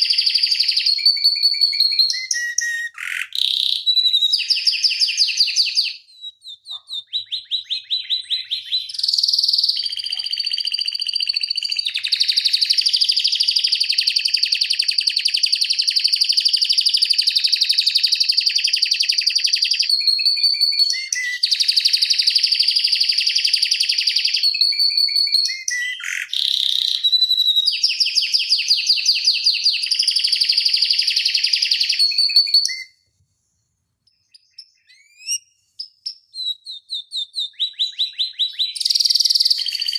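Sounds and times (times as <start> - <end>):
canary singing trills: 0.0 - 33.0, 34.1 - 39.9.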